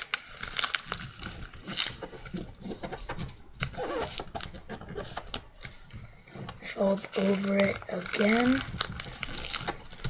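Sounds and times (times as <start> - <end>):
paper being folded and creased: 0.0 - 10.0.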